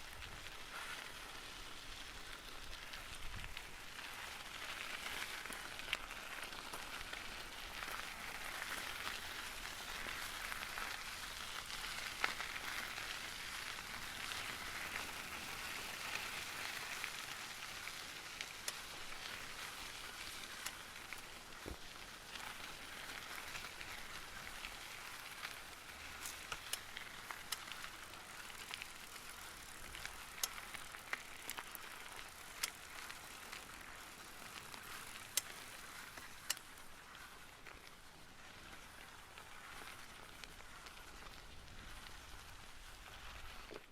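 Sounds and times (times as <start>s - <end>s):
bicycle tyres rolling over gravel: 0.0s - 43.9s.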